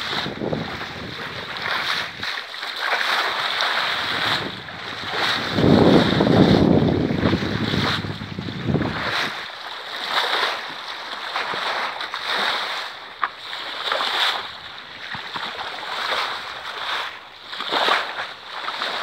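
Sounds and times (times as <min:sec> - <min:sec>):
water rushing along a hull: 0:00.0 - 0:19.0.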